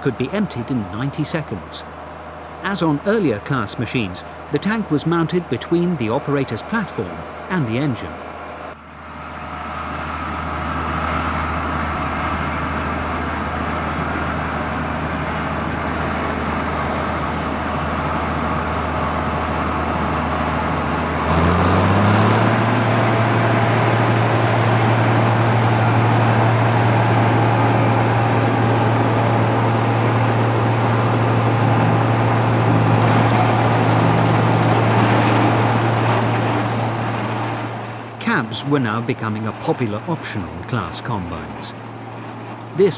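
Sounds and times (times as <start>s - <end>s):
diesel engine under load: 0.0s - 42.9s.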